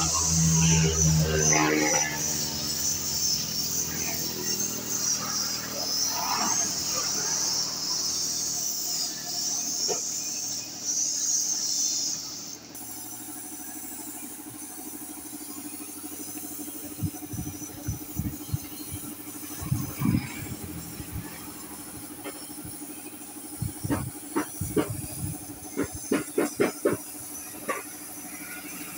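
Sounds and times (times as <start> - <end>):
low mechanical hum: 0.0 - 28.9
paint spray gun hissing: 0.0 - 28.9.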